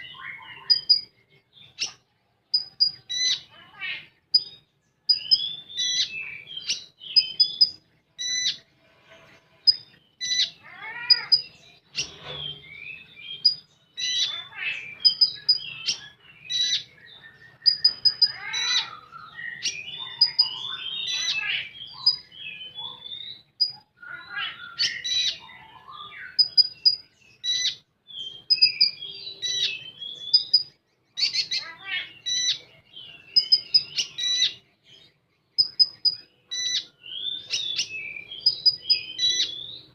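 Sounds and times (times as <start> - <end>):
songbird singing varied song: 0.0 - 8.7, 9.6 - 39.9.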